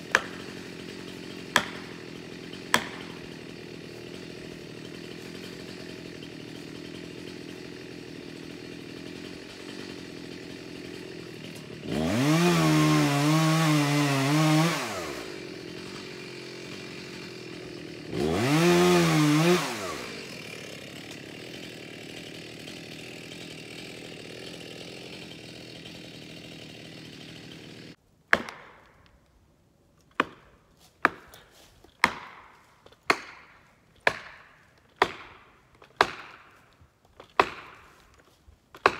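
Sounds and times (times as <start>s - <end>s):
chainsaw idling and cutting wood: 0.0s - 29.3s, 30.0s - 38.9s.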